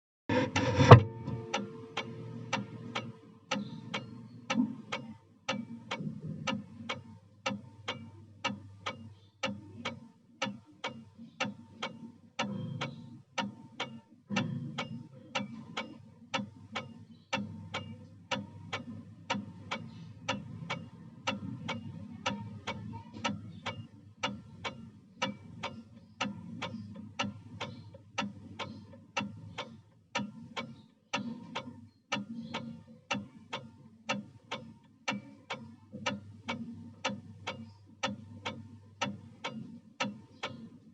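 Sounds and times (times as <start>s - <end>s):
wall clock ticking: 0.3s - 40.9s.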